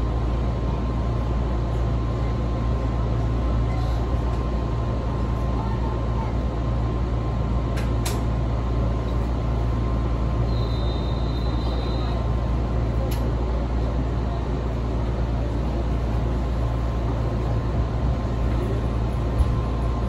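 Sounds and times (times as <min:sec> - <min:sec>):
train rumble and hiss: 0:00.0 - 0:20.0.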